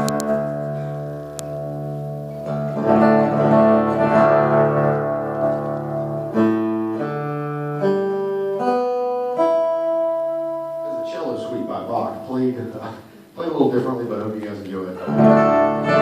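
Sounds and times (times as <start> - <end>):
acoustic guitar chords strummed: 0.0 - 13.3, 15.0 - 16.0.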